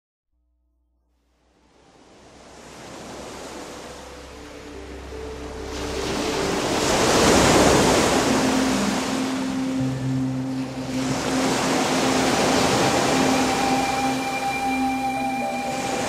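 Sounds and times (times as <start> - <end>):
ocean surf: 2.0 - 16.0.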